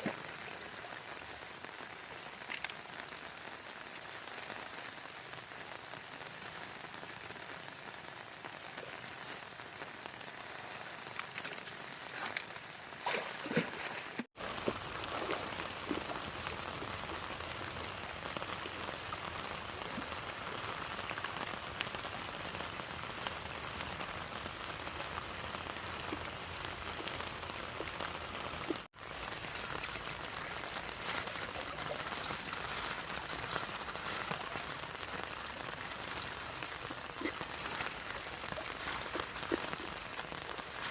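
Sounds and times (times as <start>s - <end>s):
raindrops ticking: 0.0s - 13.0s, 13.9s - 40.9s
heavy rain falling: 0.0s - 40.9s.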